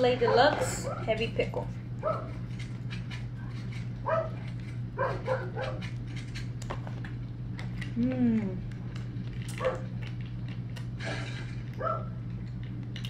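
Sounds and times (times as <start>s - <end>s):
steady low hum: 0.0s - 13.0s
chewing clicks: 2.0s - 13.0s.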